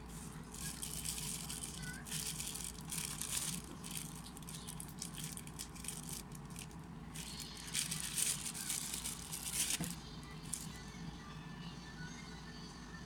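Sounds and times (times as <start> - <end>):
steady low hum: 0.0 - 13.0
handling rustling and rattling: 0.1 - 10.8.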